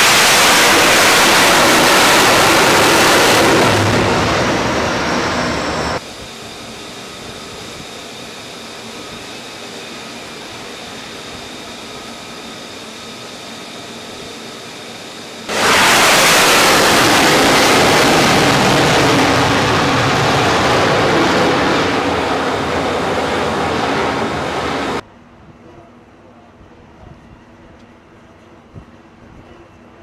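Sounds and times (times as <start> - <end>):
distant jet noise: 0.0 - 25.0
faint high whine: 0.0 - 25.0
jet fighter passing overhead: 0.0 - 25.0.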